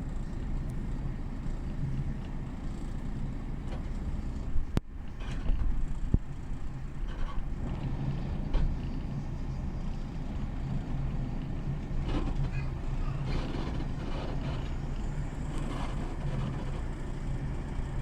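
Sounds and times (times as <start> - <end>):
train running with low drone: 0.0 - 18.0.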